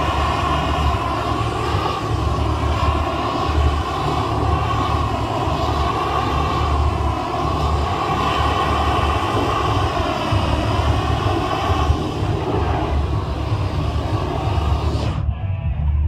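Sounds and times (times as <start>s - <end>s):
gas torch flame roaring: 0.0s - 15.2s.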